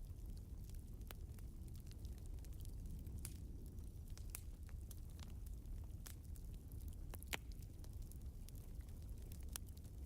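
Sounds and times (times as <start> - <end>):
low rumble of burning fire: 0.0 - 10.0
wood fire pops and snaps: 0.0 - 10.0.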